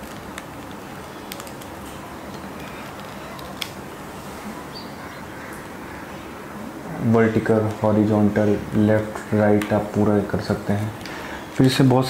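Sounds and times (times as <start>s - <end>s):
steady room hiss: 0.0s - 12.0s.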